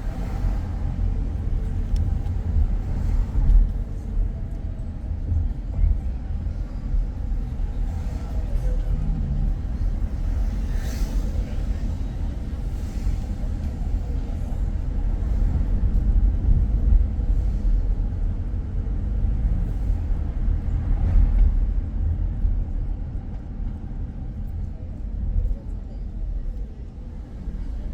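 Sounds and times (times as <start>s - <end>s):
car driving rumble: 0.0s - 27.9s.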